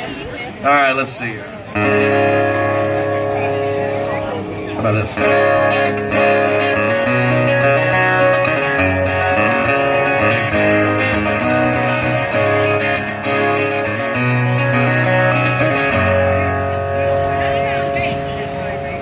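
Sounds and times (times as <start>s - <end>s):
guitar strumming chords: 1.7s - 19.0s.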